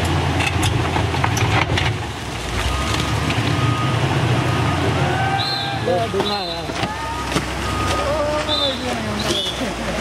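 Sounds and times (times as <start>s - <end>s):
diesel engine under load: 0.0s - 10.0s.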